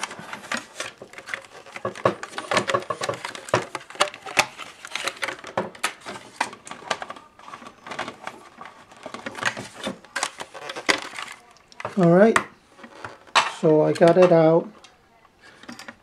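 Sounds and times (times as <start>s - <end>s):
plastic and metal parts handled: 0.0s - 16.0s.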